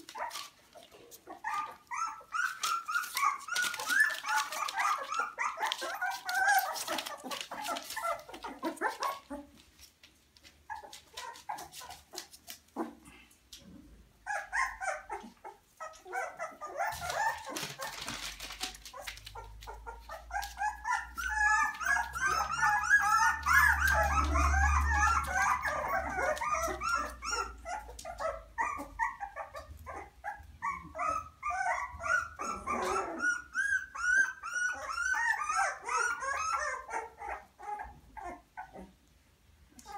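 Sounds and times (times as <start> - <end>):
puppies yelping and whining: 0.0 - 13.3, 14.1 - 39.1.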